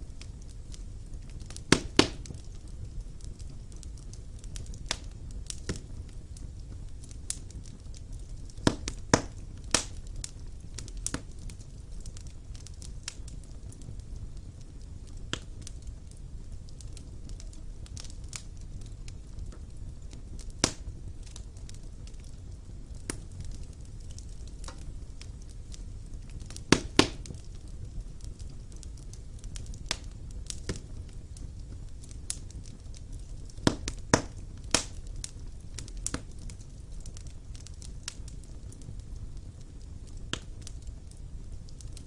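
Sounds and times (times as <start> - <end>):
fire crackles and pops: 0.0 - 42.0
low rumble of flames: 0.0 - 42.0.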